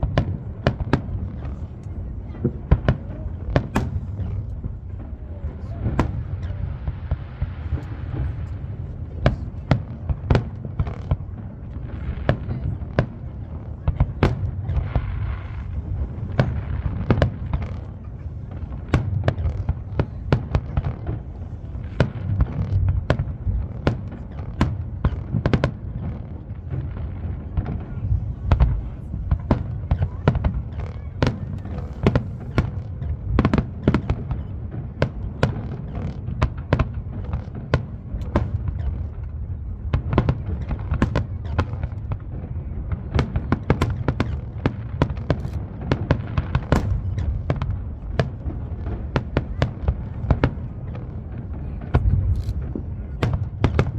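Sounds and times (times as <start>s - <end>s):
fireworks bangs and booms: 0.0s - 53.9s.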